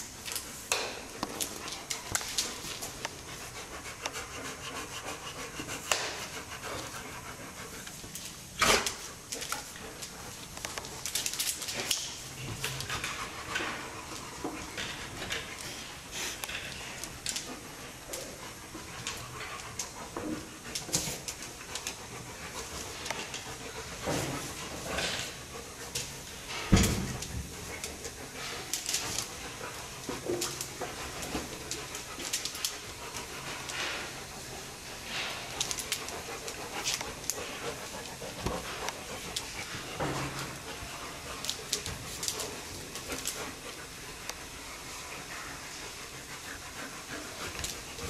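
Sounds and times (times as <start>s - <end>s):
bears breathing and huffing: 0.0s - 48.0s.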